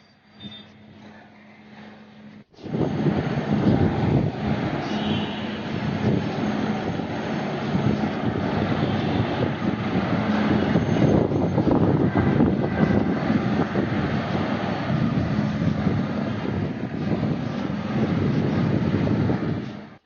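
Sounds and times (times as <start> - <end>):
vehicle engine rumble: 0.0 - 20.0
wind on microphone: 2.6 - 20.0.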